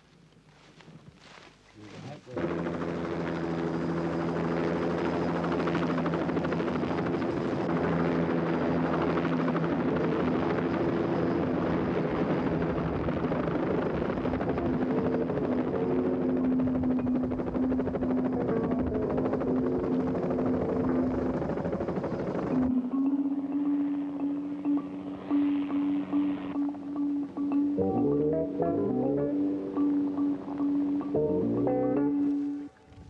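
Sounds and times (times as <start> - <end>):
helicopter engine whine and rotor chop: 1.8 - 32.8.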